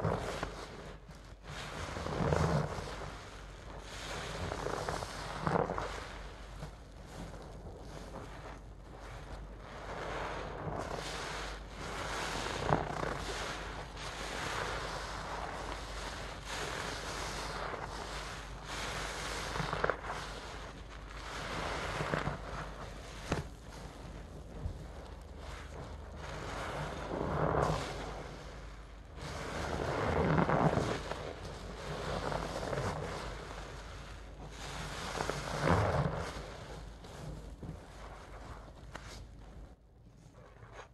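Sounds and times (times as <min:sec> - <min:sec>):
foam crackling: 0:00.0 - 0:39.8
wet sponges squishing: 0:00.1 - 0:40.9.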